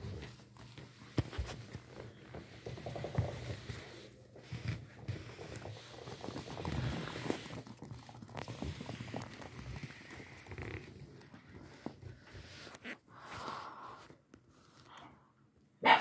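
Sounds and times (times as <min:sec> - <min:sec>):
puppy paws pattering on floor: 0:00.0 - 0:13.0.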